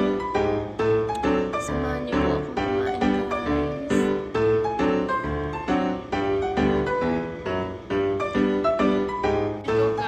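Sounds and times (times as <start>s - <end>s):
piano chords over bass line: 0.0s - 10.0s.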